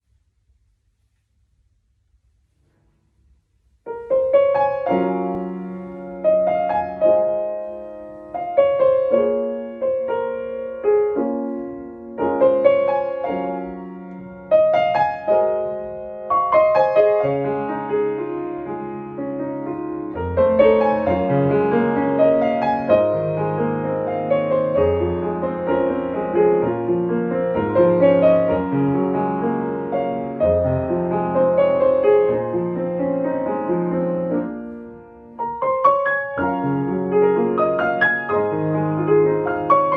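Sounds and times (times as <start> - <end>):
piano four-hands slow piece: 2.2 - 39.9.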